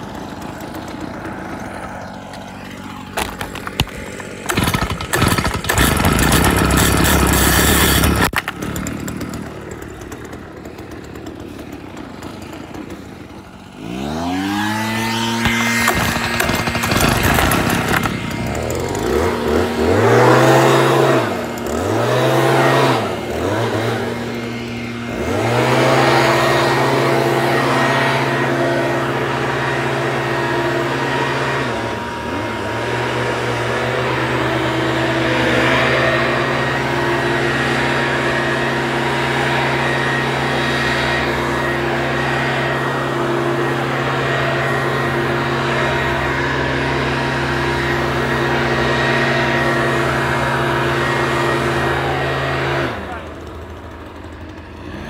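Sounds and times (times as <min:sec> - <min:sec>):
leaf blower engine revving: 0:00.0 - 0:55.0.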